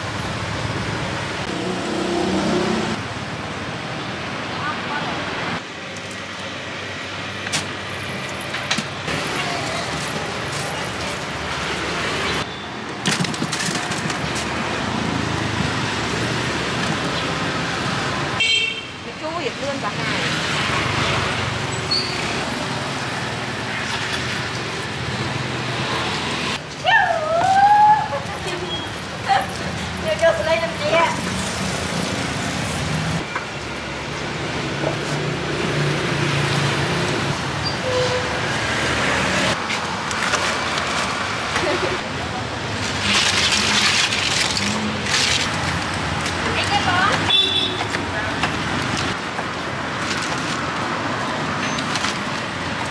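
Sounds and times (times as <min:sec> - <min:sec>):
street traffic noise: 0:00.0 - 0:52.9.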